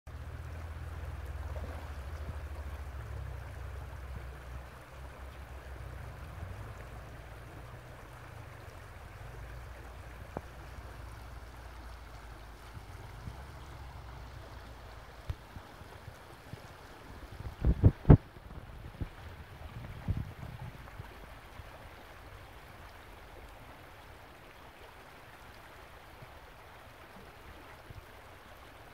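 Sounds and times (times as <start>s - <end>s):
creek water rushing: 0.1s - 28.9s.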